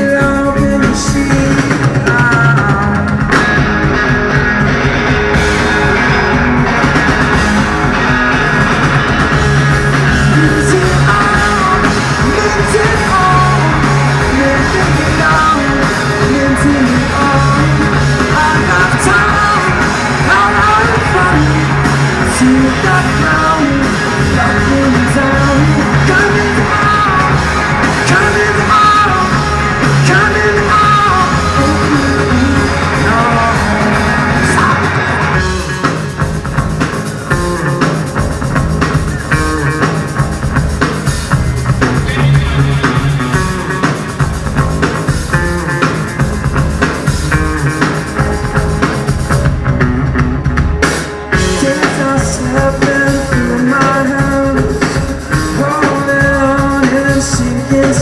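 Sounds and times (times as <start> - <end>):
bending lead melody: 0.0 - 58.0
live rock band playing: 0.0 - 58.0.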